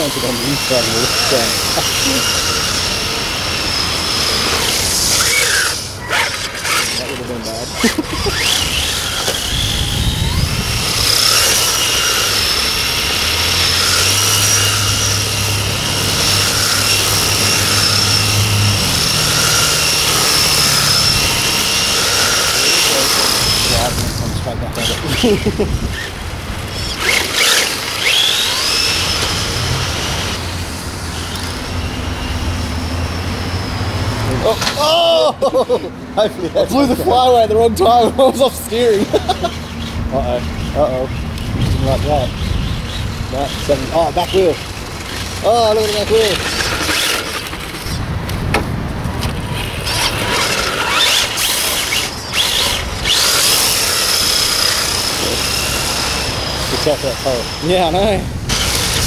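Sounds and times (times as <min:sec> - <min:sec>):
high electric motor whine: 0:00.0 - 0:59.0
toy car passing: 0:00.0 - 0:59.0.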